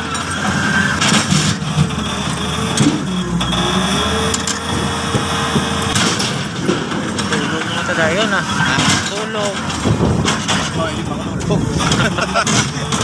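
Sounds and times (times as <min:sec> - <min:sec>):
metal clanks: 0:00.0 - 0:03.7, 0:04.3 - 0:13.0
excavator diesel engine: 0:00.0 - 0:13.0
hydraulic whine: 0:00.0 - 0:13.0.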